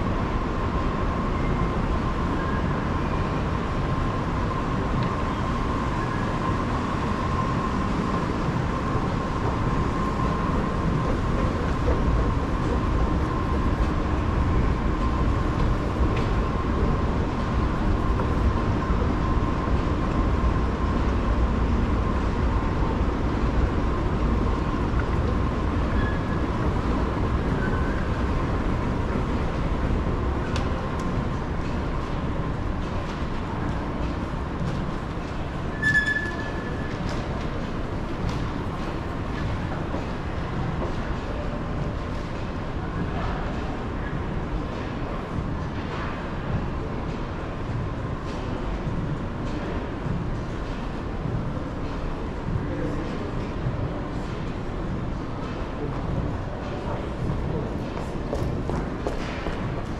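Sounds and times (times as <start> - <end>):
faint constant hum: 0.0 - 59.9.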